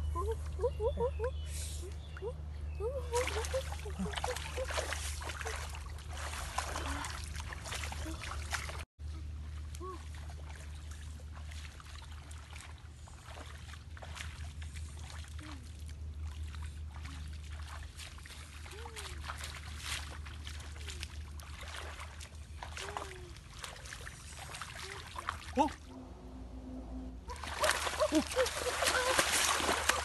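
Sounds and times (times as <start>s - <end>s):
steady low hum: 0.0s - 30.0s
feet splashing through water: 3.0s - 25.9s, 27.3s - 30.0s.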